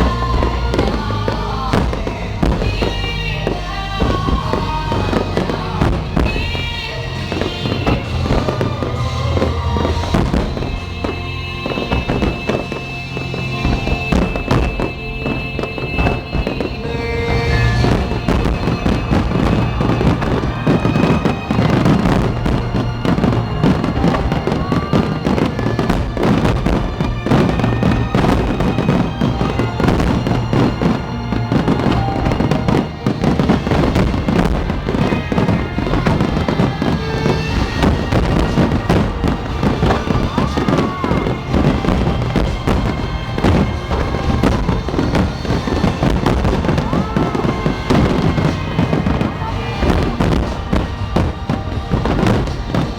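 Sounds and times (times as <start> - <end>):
fireworks bursting and crackling: 0.0 - 52.9
music playing: 0.0 - 52.9.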